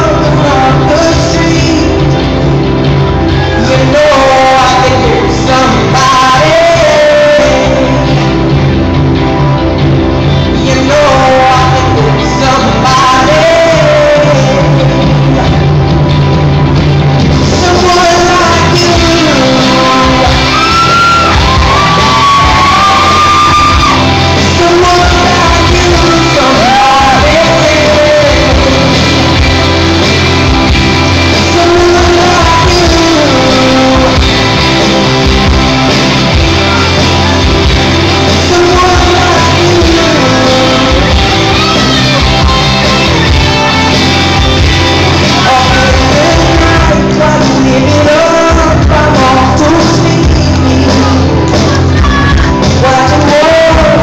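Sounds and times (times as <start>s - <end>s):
man singing into microphone: 0.0s - 2.5s, 3.2s - 8.7s, 10.4s - 15.7s, 17.3s - 35.3s, 37.8s - 43.8s, 44.9s - 54.0s
loud backing music: 0.0s - 54.0s.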